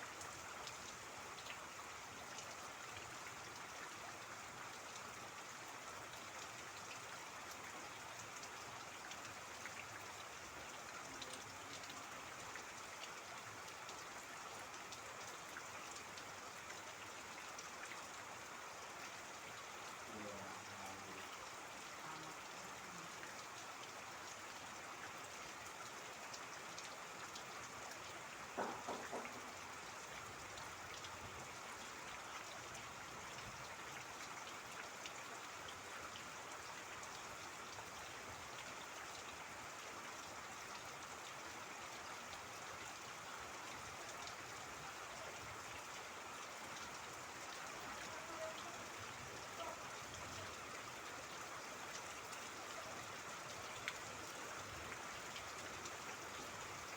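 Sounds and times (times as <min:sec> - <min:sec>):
steady rain falling: 0:00.0 - 0:56.9
trickling water: 0:00.0 - 0:56.9.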